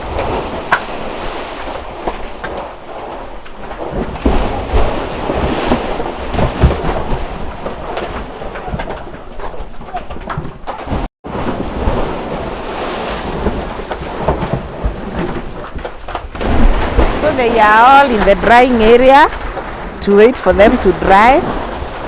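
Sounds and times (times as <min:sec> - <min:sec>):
cattle splashing in water: 0:00.0 - 0:22.0.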